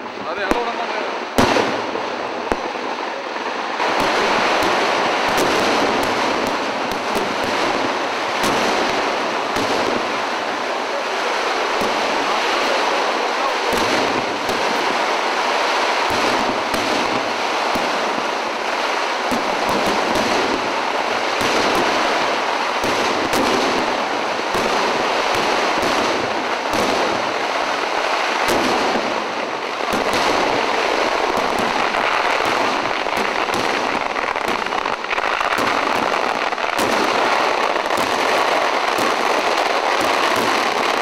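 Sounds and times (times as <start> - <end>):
fireworks crackling and rumbling: 0.0 - 41.0
sharp firework cracks: 0.0 - 41.0.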